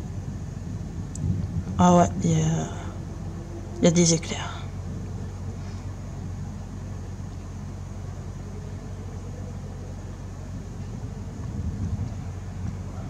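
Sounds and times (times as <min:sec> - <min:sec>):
faint rumble: 0:00.0 - 0:13.0
steady low hum: 0:00.0 - 0:13.0.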